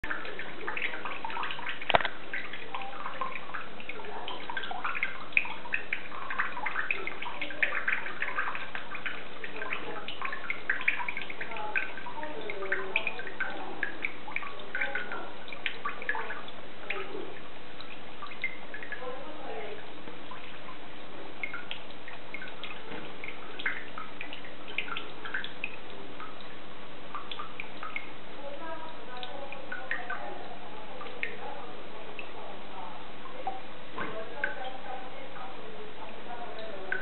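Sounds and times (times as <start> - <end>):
tap water running into sink: 0.0 - 31.4
small splashes and drips: 0.0 - 37.0.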